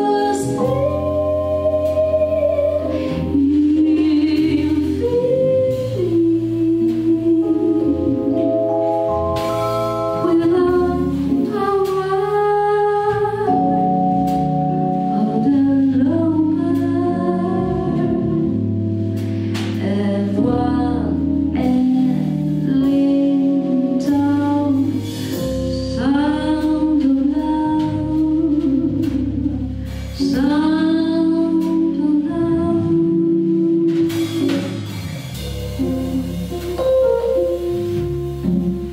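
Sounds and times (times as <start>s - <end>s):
double bass: 0.0s - 38.9s
drums: 0.0s - 38.9s
piano: 0.0s - 38.9s
woman singing jazz ballad: 0.0s - 38.9s.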